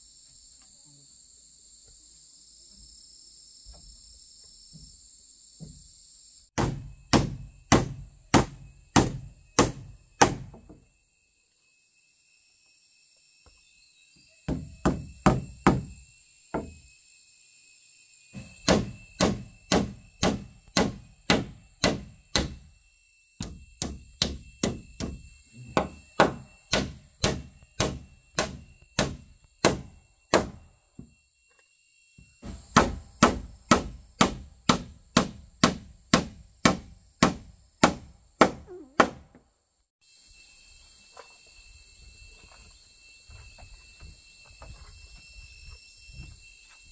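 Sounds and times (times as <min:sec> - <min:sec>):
high buzz of insects: 0:00.0 - 0:46.9.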